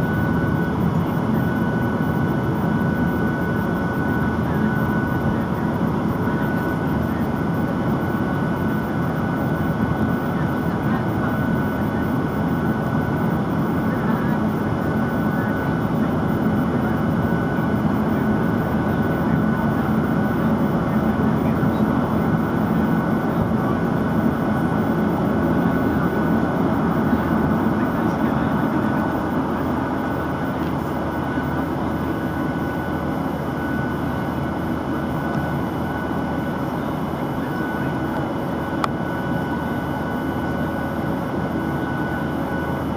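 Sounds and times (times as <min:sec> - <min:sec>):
thin steady engine whine: 0:00.0 - 0:42.9.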